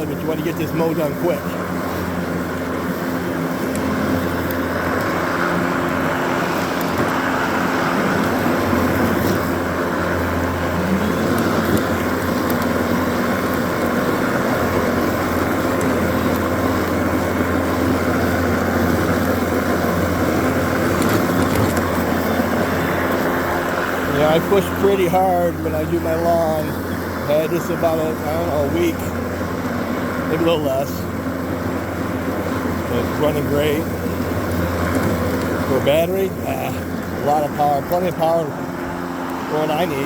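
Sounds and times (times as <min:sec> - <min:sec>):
electric lawn mower running: 0:00.0 - 0:40.0.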